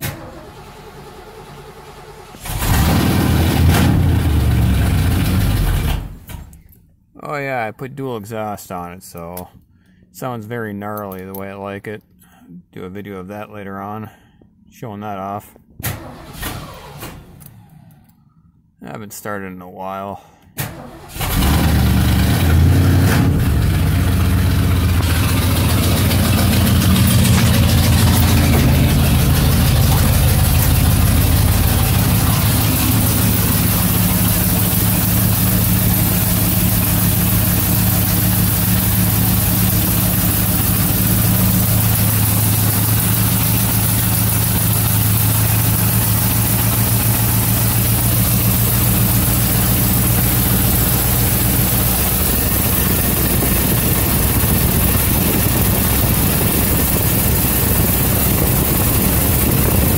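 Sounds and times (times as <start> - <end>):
car engine starting and idling: 0.0 - 7.5, 15.6 - 18.4, 20.4 - 59.9.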